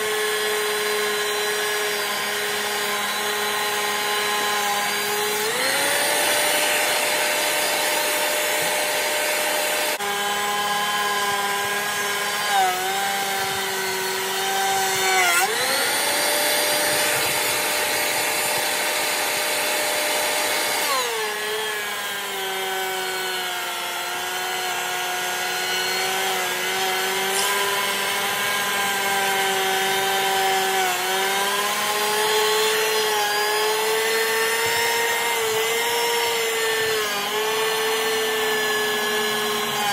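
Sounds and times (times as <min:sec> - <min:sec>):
thickness planer motor whine: 0:00.0 - 0:39.9.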